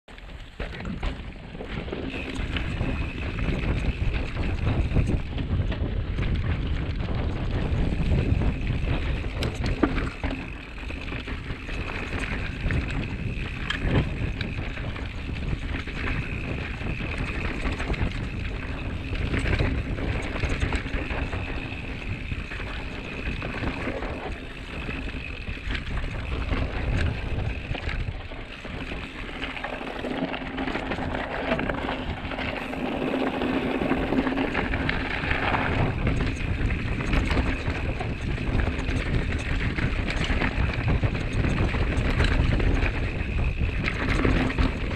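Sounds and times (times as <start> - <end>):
bike tyres rumbling over rough ground: 0.1 - 44.9
high whine from bike: 0.1 - 44.9
wind on microphone: 0.8 - 44.9.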